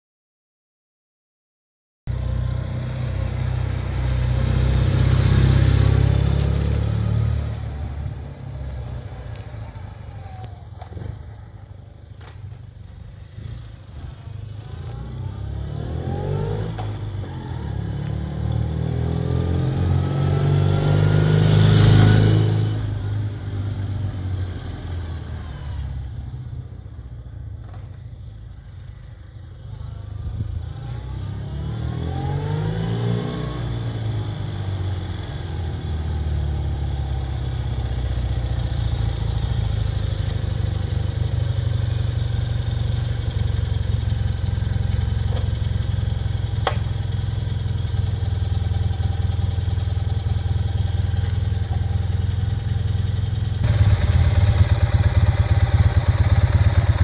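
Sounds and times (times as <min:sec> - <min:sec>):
motorcycle engine passing by: 0:02.1 - 0:09.2, 0:13.2 - 0:26.2, 0:30.6 - 0:57.0.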